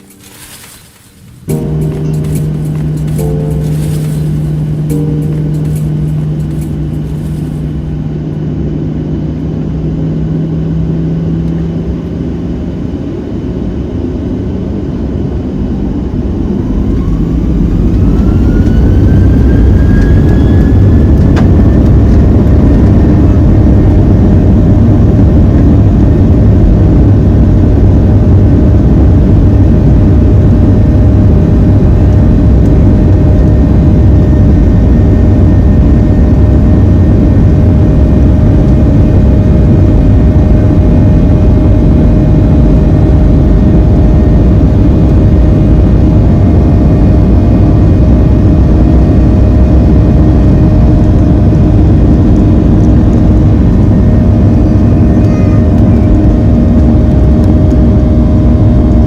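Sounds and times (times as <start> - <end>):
jet engines spooling up: 0.0 - 12.3, 15.8 - 59.0
rising engine whine: 0.0 - 59.0.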